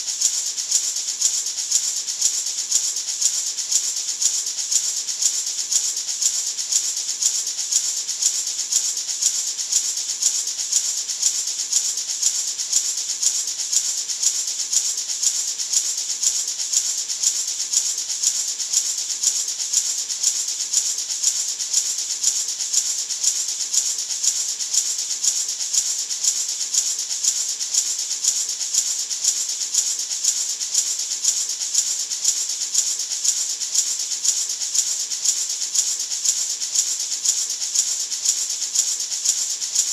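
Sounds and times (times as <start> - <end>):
maraca shaken rhythmically: 0.0 - 39.9.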